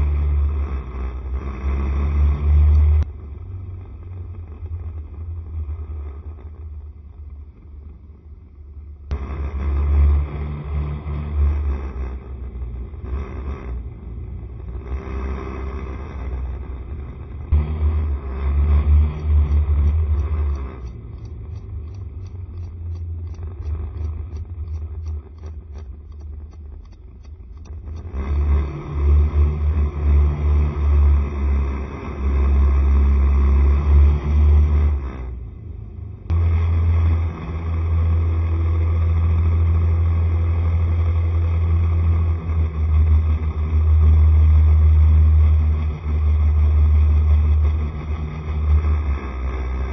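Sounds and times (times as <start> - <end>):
scooter engine road and wind rumble: 0.0 - 49.9.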